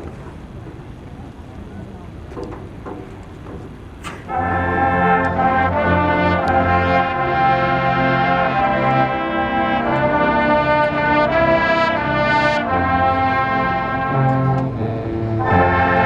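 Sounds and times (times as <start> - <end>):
low bass line: 2.7 - 16.0
marching band brass chords: 2.9 - 16.0.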